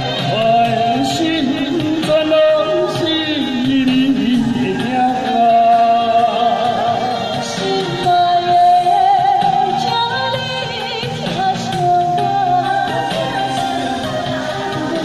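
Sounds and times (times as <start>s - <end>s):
recorded backing track: 0.0s - 15.0s
woman singing with vibrato: 0.0s - 15.0s.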